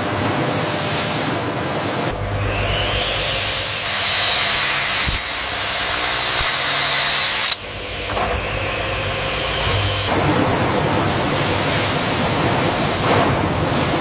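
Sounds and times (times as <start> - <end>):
machinery low hum: 0.0 - 14.0
machinery hissing: 2.4 - 14.0.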